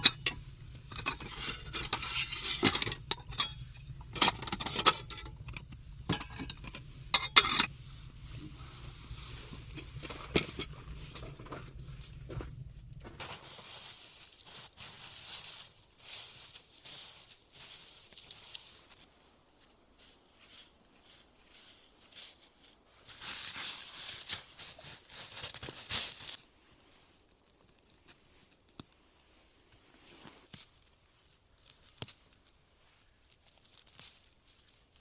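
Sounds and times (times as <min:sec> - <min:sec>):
rustling and scraping: 0:00.0 - 0:35.0.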